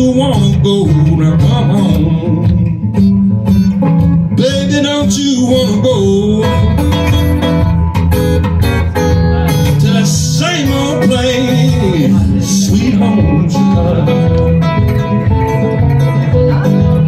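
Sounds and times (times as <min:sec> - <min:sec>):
acoustic guitar strumming: 0:00.0 - 0:17.0
bending guitar lead line: 0:00.0 - 0:17.0.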